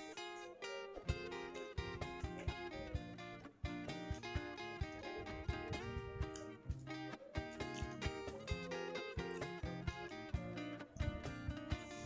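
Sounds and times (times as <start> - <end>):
guitar chords: 0.0 - 12.0
steady low thumping beat: 1.1 - 12.0.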